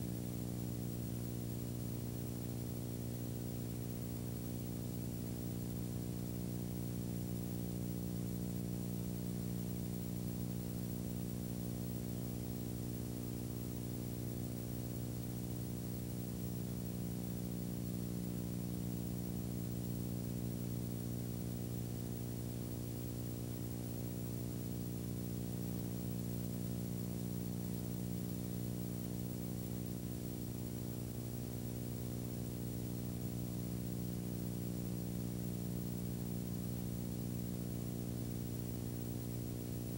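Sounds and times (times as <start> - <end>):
electrical hum with hiss: 0.0 - 39.9.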